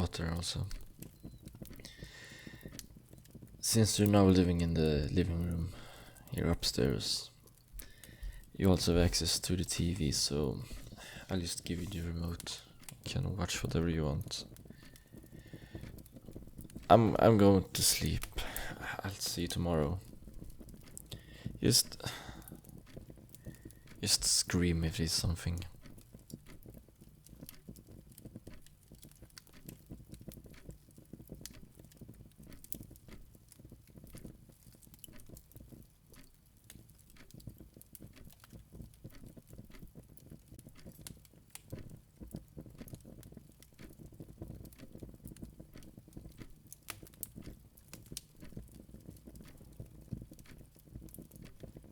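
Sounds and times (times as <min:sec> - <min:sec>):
light crackling taps: 0:00.0 - 0:51.9.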